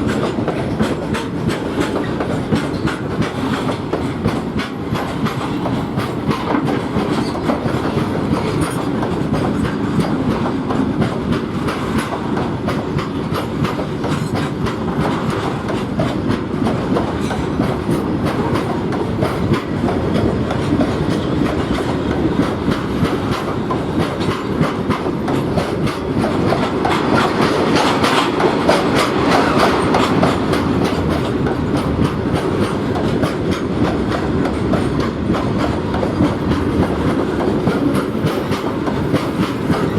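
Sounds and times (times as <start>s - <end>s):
train rumble: 0.0s - 39.9s
train wheels clattering over rail joints: 0.0s - 39.9s.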